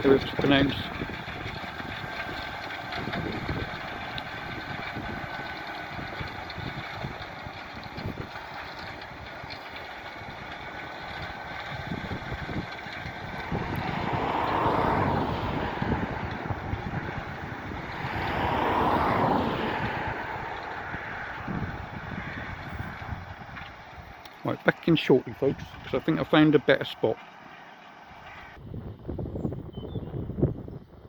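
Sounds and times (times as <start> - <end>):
distant tractor engine running: 0.0 - 31.0.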